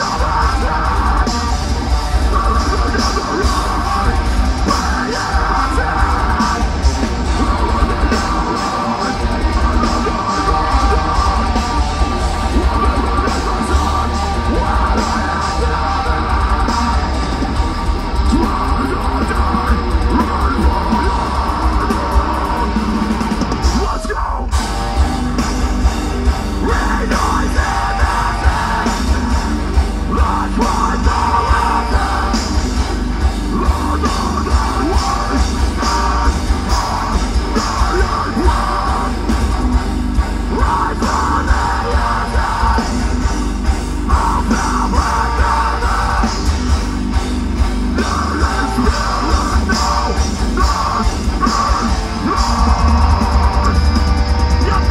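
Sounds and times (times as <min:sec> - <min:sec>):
distorted metal band playing: 0:00.0 - 0:54.9
harsh screamed vocals: 0:00.0 - 0:54.9.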